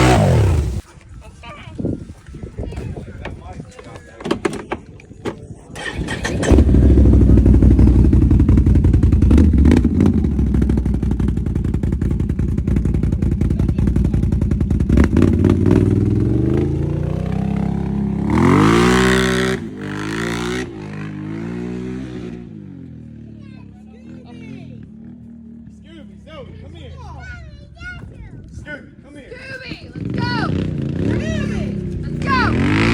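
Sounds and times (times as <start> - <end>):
motorcycle engine running and revving: 0.0 - 0.9, 5.8 - 28.5, 29.9 - 32.9.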